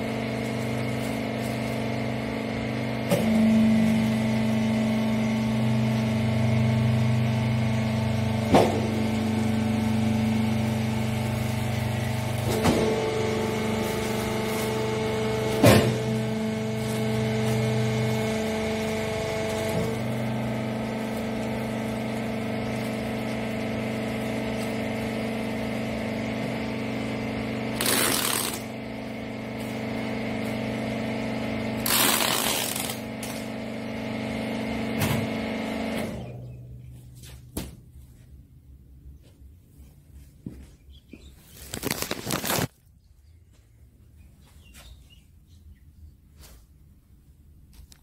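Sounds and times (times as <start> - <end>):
hydraulic power unit humming: 0.0 - 48.0.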